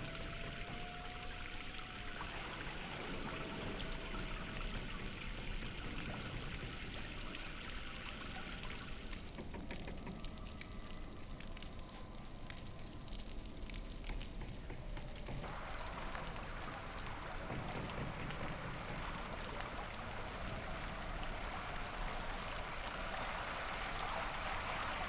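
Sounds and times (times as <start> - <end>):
small clicks and drips: 0.0 - 25.0
water rushing: 0.0 - 25.0.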